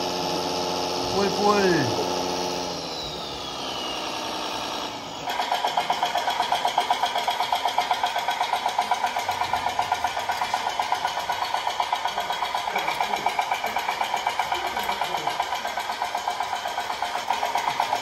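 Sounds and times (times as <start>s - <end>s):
model tractor engine chugging: 0.0s - 18.0s.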